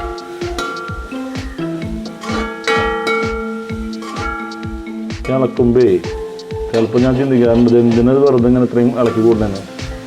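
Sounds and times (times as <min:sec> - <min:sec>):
ringing melody notes: 0:00.0 - 0:09.7
steady beat: 0:00.0 - 0:10.0.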